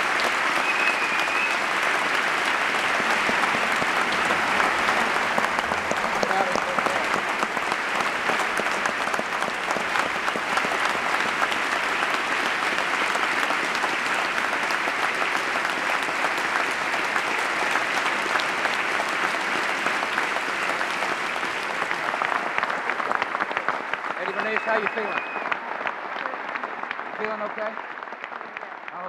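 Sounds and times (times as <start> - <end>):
audience applause: 0.0 - 29.0.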